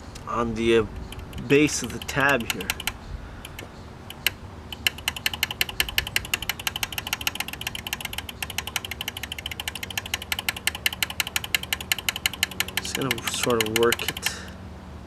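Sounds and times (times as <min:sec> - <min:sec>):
small metal relay clicks: 0:00.0 - 0:14.6.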